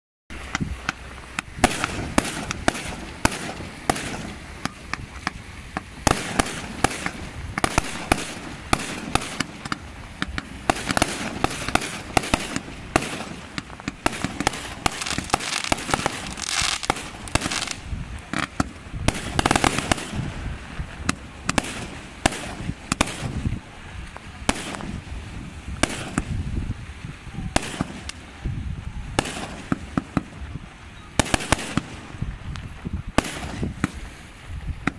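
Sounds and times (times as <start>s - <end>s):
continuous hissing: 0.3s - 34.9s
fireworks bangs: 0.3s - 34.9s.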